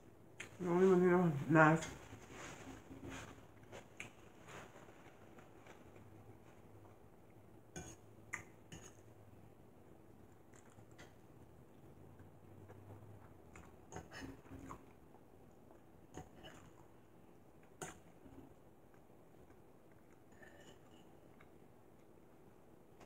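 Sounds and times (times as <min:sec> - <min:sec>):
quiet chewing: 0:00.3 - 0:00.6, 0:01.8 - 0:09.2, 0:10.2 - 0:23.0.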